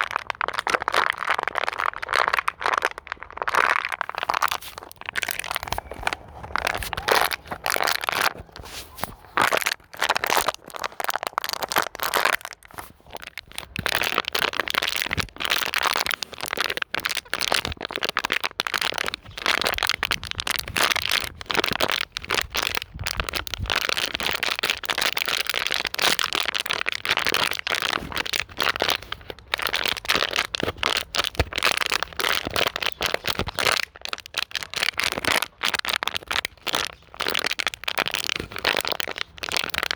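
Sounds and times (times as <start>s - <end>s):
plastic bottle crinkling: 0.0s - 39.9s.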